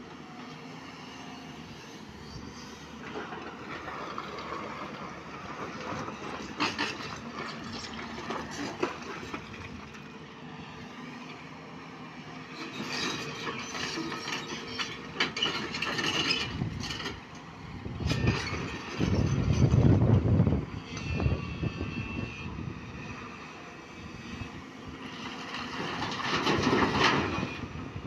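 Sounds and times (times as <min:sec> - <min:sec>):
tracked excavator running: 0:00.0 - 0:28.0.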